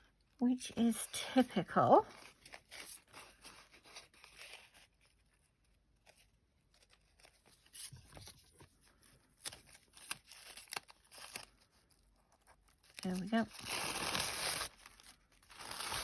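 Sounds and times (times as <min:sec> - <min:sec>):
tissue paper rustling and ticking: 0:00.1 - 0:16.0.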